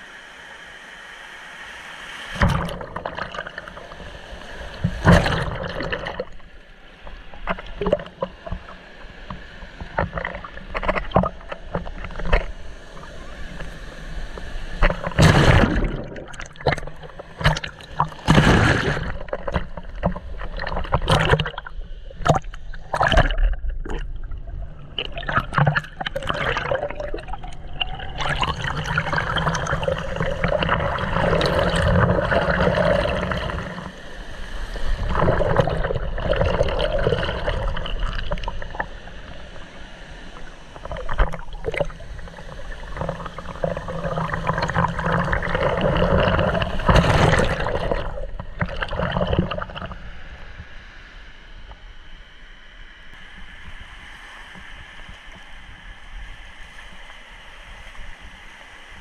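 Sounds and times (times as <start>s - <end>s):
waves splashing over camera: 0.0s - 51.0s
steady wash of surf: 0.0s - 59.0s.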